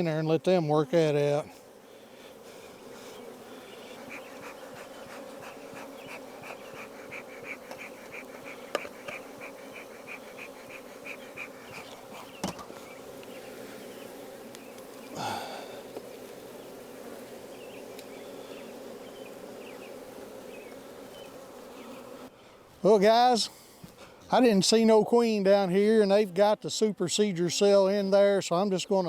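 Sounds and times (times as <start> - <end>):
honeybees buzzing: 0.0 - 23.8.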